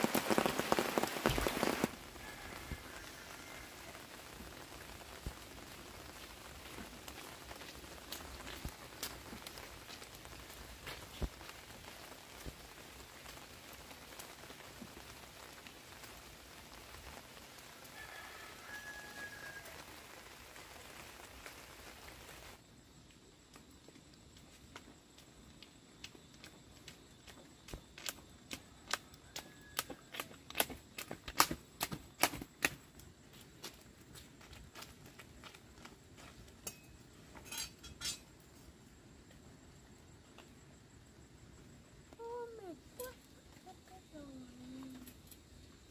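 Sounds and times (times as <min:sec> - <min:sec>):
faint steady patter: 0:00.0 - 0:45.9.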